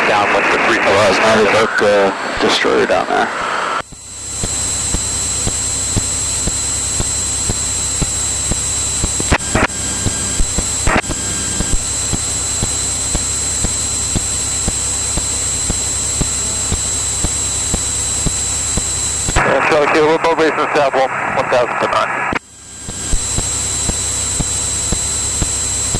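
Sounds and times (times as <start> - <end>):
airplane engine droning: 0.0 - 25.9.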